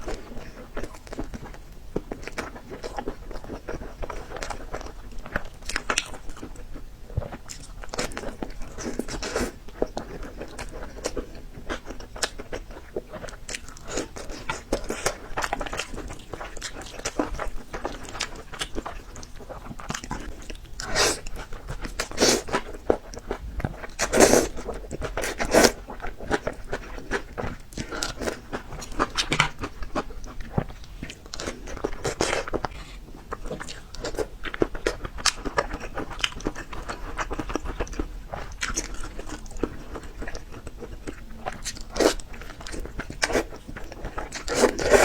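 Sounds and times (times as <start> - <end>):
person chewing crunchy peppers: 0.0 - 45.0.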